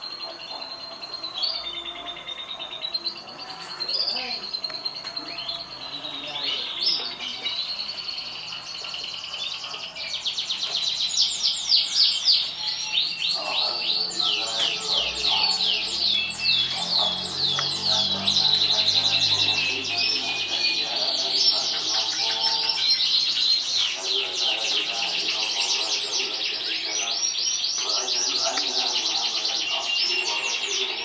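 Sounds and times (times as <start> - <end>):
canary singing fast trills: 0.0 - 31.0.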